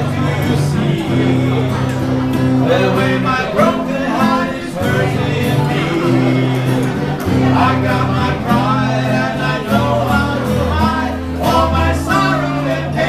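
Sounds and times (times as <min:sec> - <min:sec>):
strummed acoustic guitar: 0:00.0 - 0:13.0
two men singing: 0:00.0 - 0:13.0.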